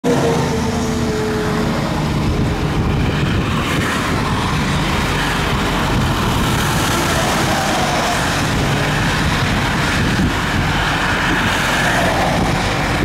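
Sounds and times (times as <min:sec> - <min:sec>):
highway traffic passing: 0:00.0 - 0:13.0.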